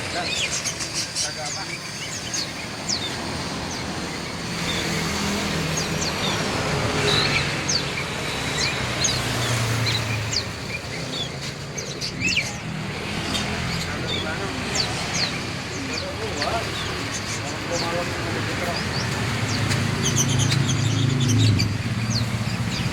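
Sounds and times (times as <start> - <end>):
road traffic noise: 0.0 - 22.9
songbirds chirping: 0.0 - 22.9.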